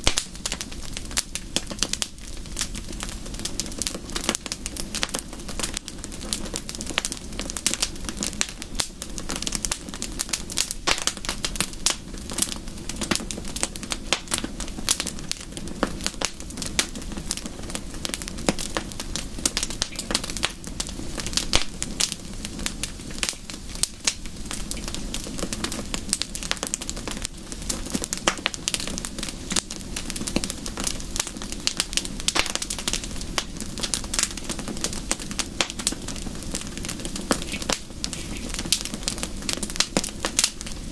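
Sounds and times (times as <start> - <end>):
fire hiss: 0.0 - 40.9
wood fire crackling: 0.0 - 40.9.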